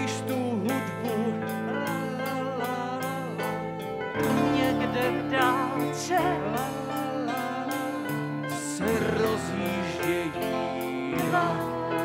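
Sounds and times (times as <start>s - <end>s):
waltz music: 0.3s - 12.0s.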